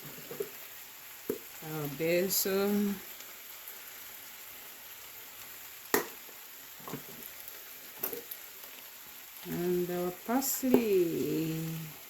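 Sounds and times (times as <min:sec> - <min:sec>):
stew sizzling in a pot: 0:00.0 - 0:12.0.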